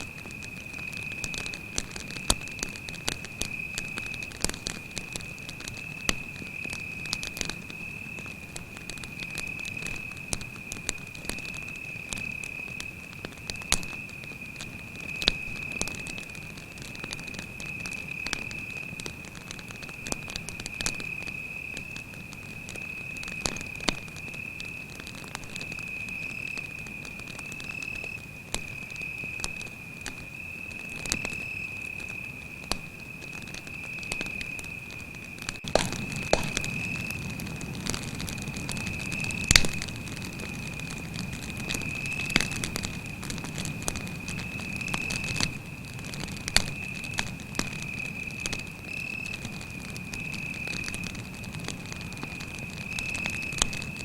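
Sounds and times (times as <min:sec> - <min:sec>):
burning wood popping: 0:00.0 - 0:54.0
campfire crackling: 0:00.0 - 0:54.0
cricket trilling: 0:00.0 - 0:54.0.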